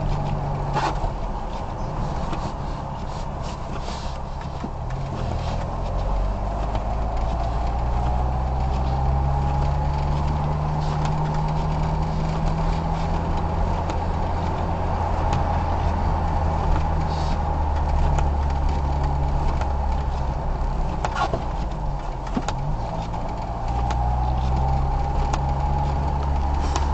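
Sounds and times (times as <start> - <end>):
car engine: 0.0 - 26.9
road noise inside car: 0.0 - 26.9.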